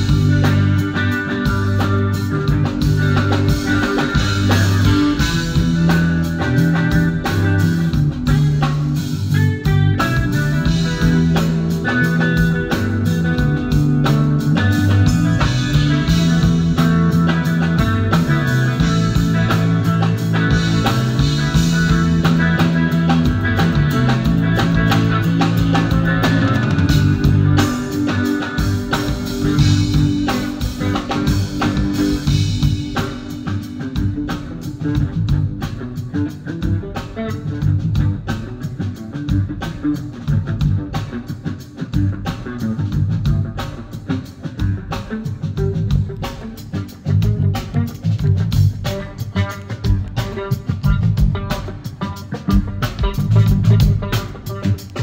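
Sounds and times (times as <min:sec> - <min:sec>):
bass guitar: 0:00.0 - 0:55.0
drum kit with cymbals: 0:00.0 - 0:55.0
electric guitar: 0:00.0 - 0:55.0.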